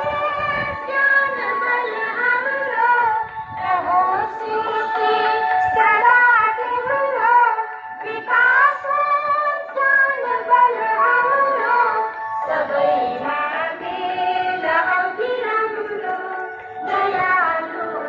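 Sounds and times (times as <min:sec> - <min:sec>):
children singing in unison: 0:00.0 - 0:18.0.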